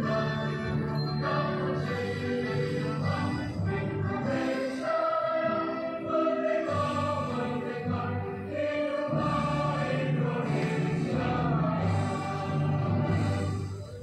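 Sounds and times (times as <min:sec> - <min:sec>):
choir-like singing: 0:00.0 - 0:14.0.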